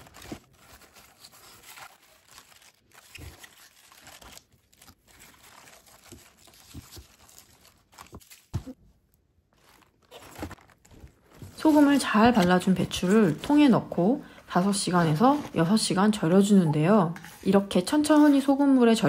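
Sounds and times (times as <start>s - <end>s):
cabbage leaves rustling and crunching: 0.0s - 8.8s, 9.6s - 16.2s.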